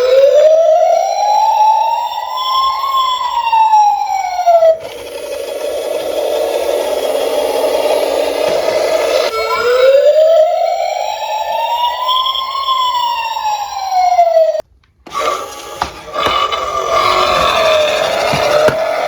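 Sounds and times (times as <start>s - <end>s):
police siren wailing and yelping: 0.0s - 19.0s.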